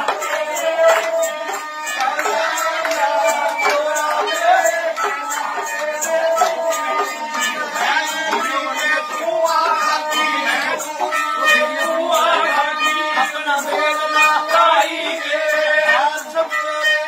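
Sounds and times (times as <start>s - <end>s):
bowed sarangi: 0.0s - 17.0s
person singing: 0.0s - 17.0s
quick percussion beat: 0.0s - 17.0s.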